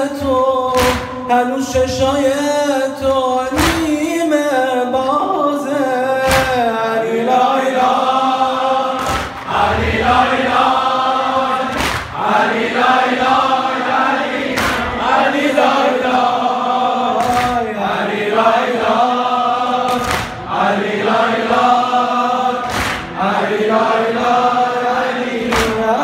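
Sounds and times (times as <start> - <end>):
amplified voice reciting: 0.0 - 26.0
men chanting in unison: 0.0 - 26.0.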